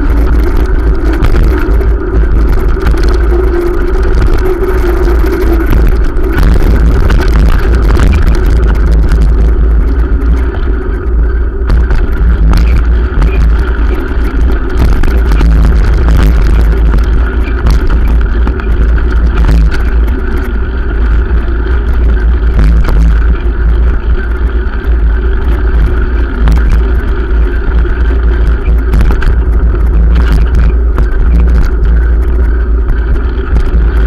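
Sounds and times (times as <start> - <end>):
road noise: 0.0 - 34.0
wind rumble: 0.0 - 34.0.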